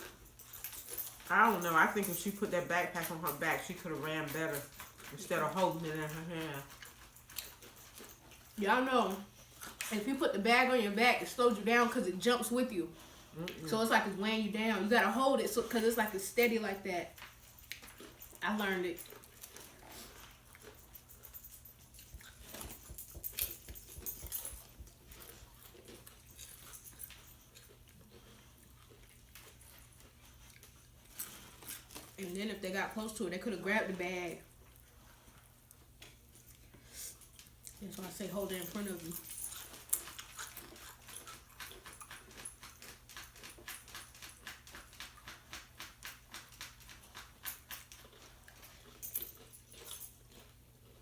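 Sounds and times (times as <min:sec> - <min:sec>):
chewing and crunching: 0:00.0 - 0:51.0.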